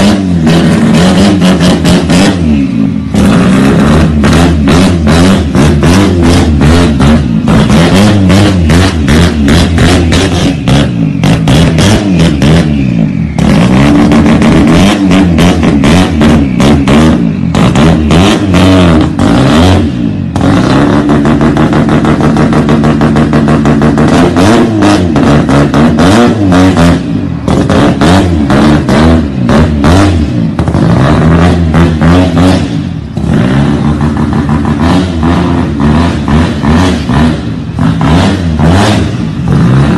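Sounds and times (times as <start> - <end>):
car engine revving hard: 0.0 - 39.9
exhaust crackle: 0.0 - 39.9.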